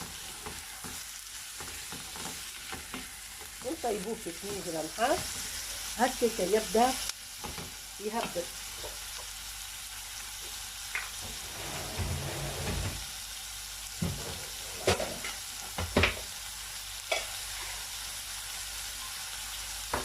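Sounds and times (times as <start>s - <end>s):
meat sizzling in a pot: 0.0s - 11.4s, 12.8s - 20.0s.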